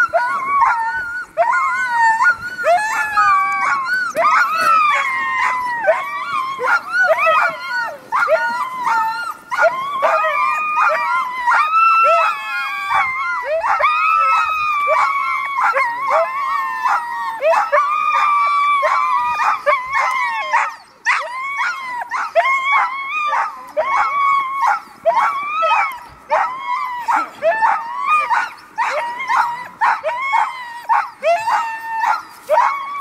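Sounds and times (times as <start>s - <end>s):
sled dogs howling and yelping: 0.0s - 33.0s.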